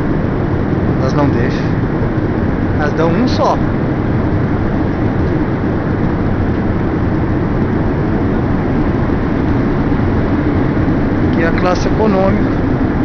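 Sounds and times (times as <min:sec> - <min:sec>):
airliner cabin noise: 0:00.0 - 0:13.0.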